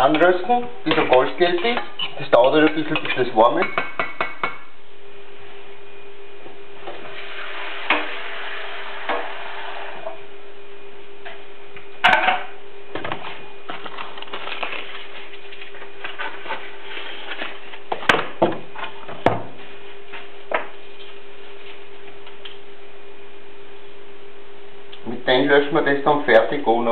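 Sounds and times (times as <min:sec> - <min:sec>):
steady electric hum: 0:00.0 - 0:26.9.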